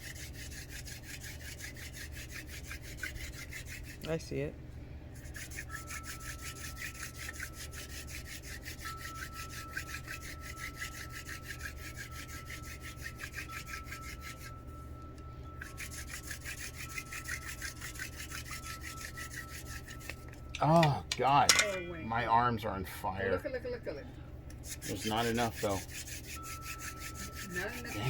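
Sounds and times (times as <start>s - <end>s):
hand drill rasping on wood: 0.0s - 4.2s, 5.2s - 20.6s, 24.6s - 28.0s.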